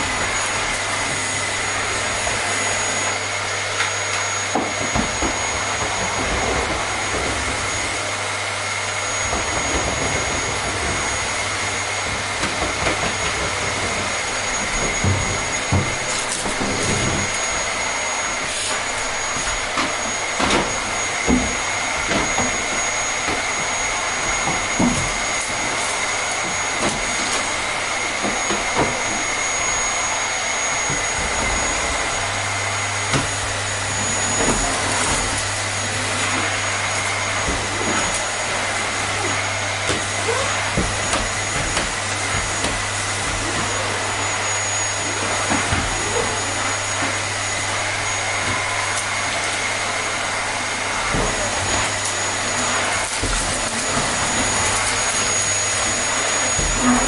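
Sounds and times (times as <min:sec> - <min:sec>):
vacuum cleaner motor running: 0:00.0 - 0:57.0.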